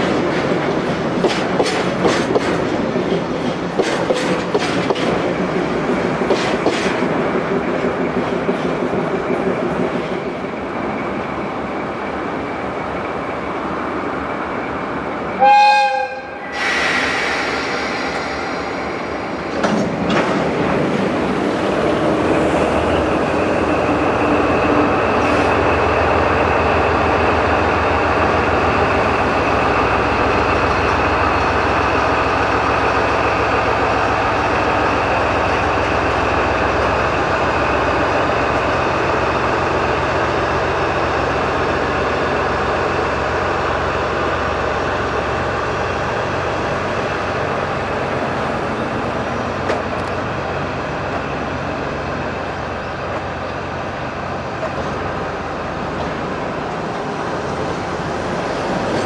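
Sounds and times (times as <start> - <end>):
train wheels rolling over rails: 0.0 - 15.3, 16.5 - 59.0
diesel locomotive running under load: 0.0 - 59.0.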